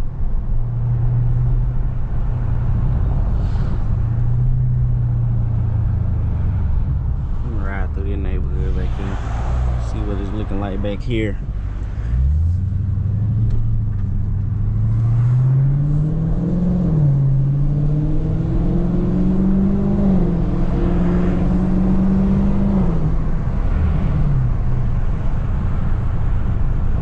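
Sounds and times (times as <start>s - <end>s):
car engine accelerating hard: 1.0s - 27.0s.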